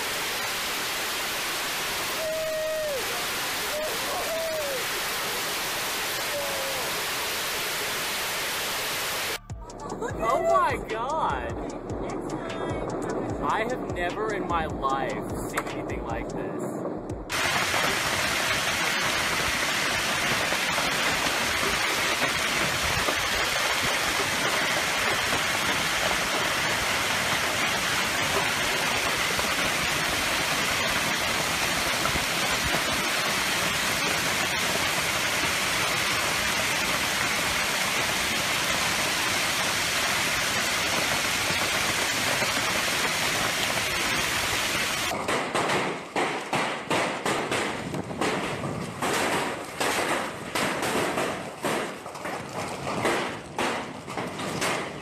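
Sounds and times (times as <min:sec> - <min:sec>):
hail and rain pelting ground: 0:00.0 - 0:09.4, 0:17.3 - 0:46.5, 0:47.8 - 0:55.0
hailstones hitting: 0:00.0 - 0:09.4, 0:17.3 - 0:55.0.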